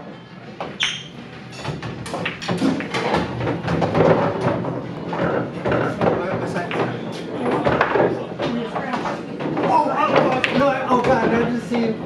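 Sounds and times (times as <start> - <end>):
bar chatter: 0.0 - 12.0
pool balls clacking: 0.6 - 12.0.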